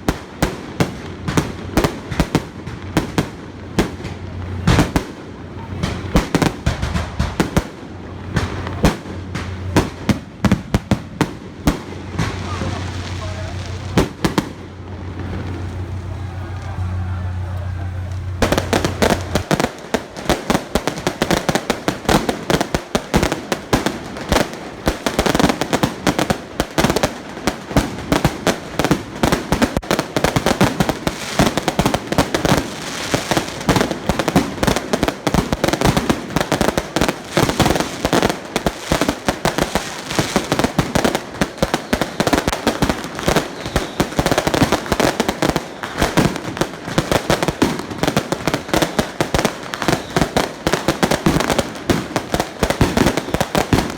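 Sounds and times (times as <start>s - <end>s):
firecrackers banging: 0.0s - 53.9s.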